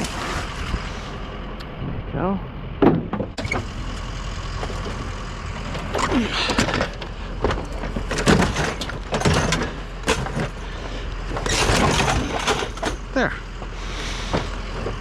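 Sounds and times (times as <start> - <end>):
scrap clanking and rattling: 2.8 - 15.0.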